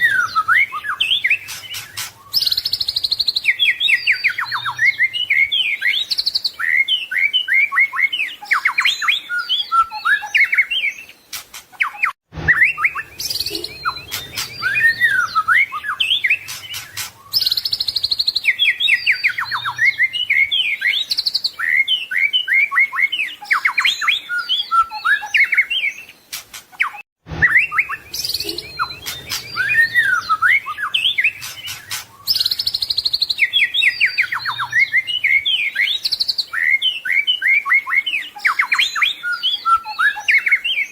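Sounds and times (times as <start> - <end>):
songbird whistles and trills: 0.0 - 40.9.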